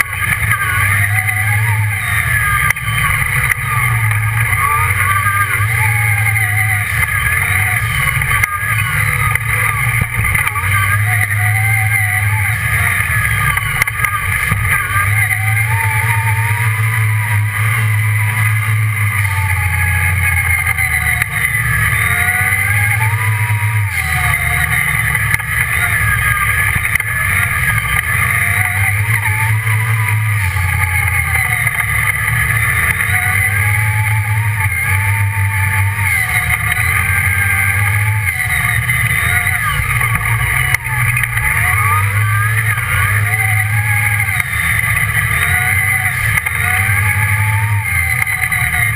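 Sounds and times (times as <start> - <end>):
buggy engine revving: 0.0 - 48.9.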